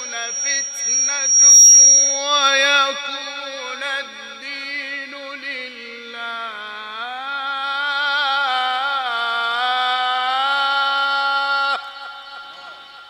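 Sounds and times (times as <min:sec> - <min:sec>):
man chanting a long melodic note: 0:00.0 - 0:13.0.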